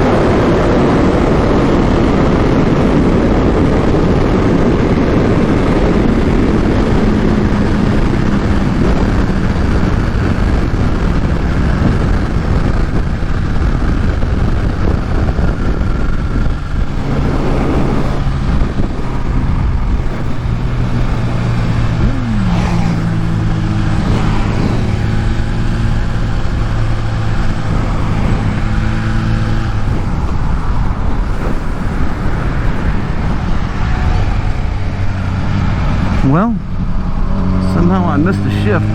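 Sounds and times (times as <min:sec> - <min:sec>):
motorcycle engine at speed: 0:00.0 - 0:38.9
wind rush on microphone: 0:00.0 - 0:38.9.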